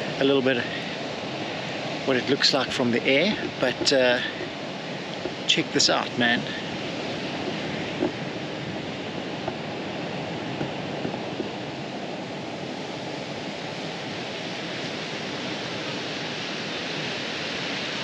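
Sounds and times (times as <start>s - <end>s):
sea surf washing onto beach: 0.0s - 18.0s.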